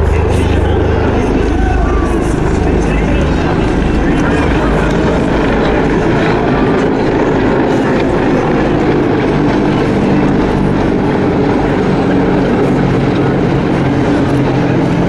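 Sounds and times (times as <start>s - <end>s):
helicopters flying past: 0.0s - 15.0s.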